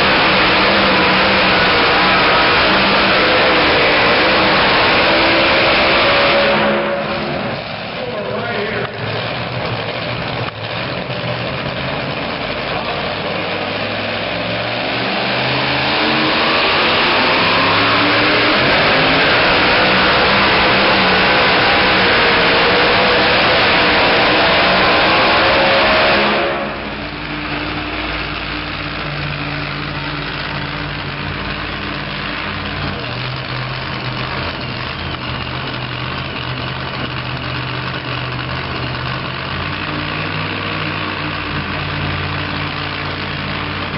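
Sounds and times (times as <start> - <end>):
truck engine revving: 0.0 - 43.9.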